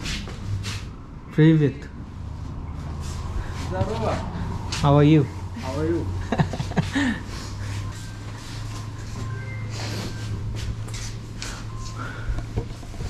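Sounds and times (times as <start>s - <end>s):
rustling and shuffling: 2.3s - 13.0s.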